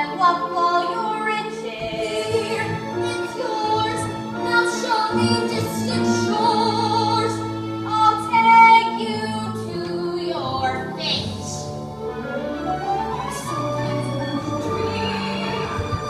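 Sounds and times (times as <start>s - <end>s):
woman singing: 0.0s - 11.6s, 13.4s - 16.0s
instrumental accompaniment: 0.0s - 16.0s.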